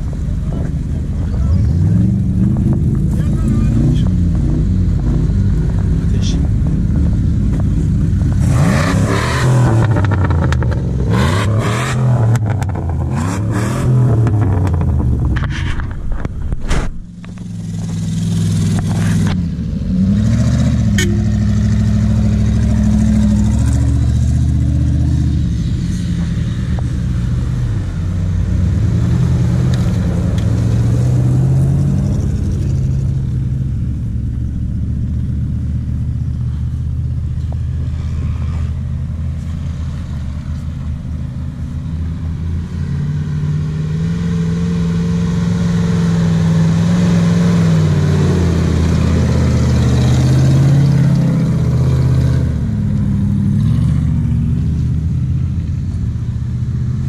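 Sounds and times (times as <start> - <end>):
off-road vehicle engines passing: 0.0 - 57.0.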